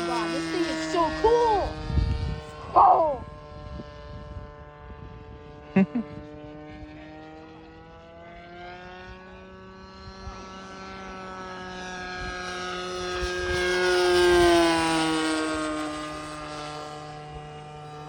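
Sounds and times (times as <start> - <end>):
model airplane motor whining: 0.0 - 18.0.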